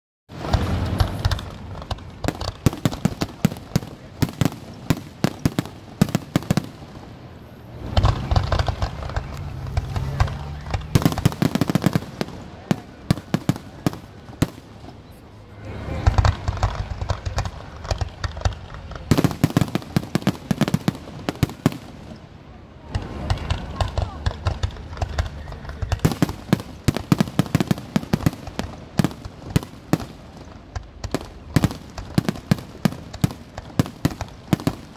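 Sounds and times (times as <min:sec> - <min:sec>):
fireworks bangs and crackles: 0:00.3 - 0:34.9.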